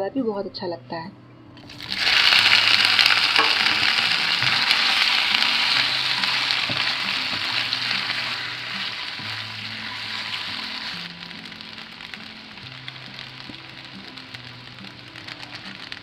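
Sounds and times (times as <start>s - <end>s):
spatula stirring: 1.6s - 16.0s
spices sizzling in hot fat: 1.6s - 16.0s.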